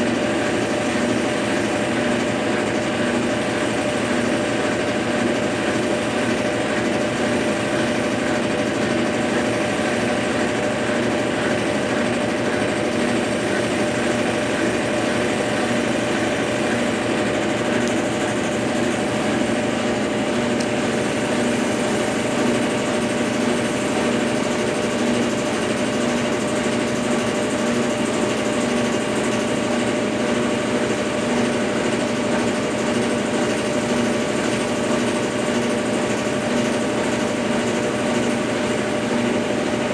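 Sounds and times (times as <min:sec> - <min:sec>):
washing machine motor humming: 0:00.0 - 0:39.9.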